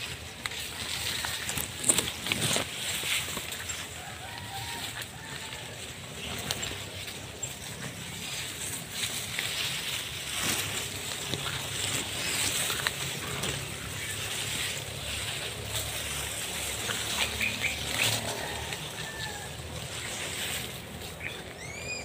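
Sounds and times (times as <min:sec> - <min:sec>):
twigs snapping and crackling: 0:00.0 - 0:22.0
undergrowth rustling: 0:00.0 - 0:22.0.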